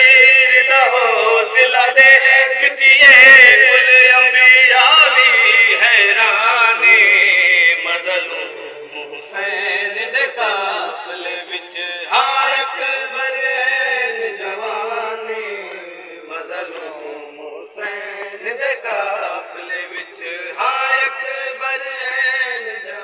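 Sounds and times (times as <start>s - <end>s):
man chanting a lament: 0.0s - 23.0s.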